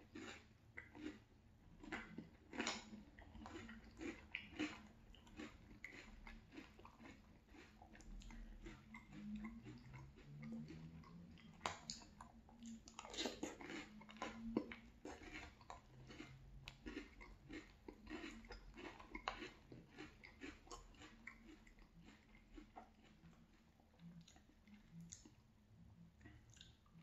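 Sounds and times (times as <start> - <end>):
chewing crunchy cereal: 0.0 - 27.0.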